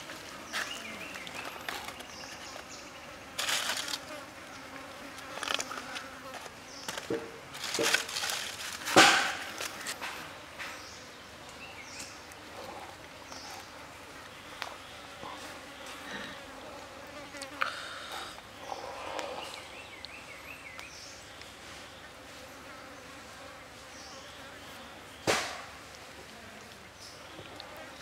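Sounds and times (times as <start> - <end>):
insect buzzing: 0.0 - 10.0, 10.9 - 28.0.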